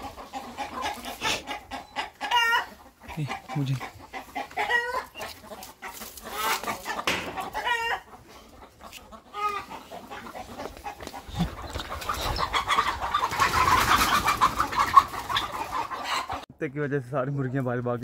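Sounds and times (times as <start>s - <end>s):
chickens clucking and squawking: 0.0s - 16.5s.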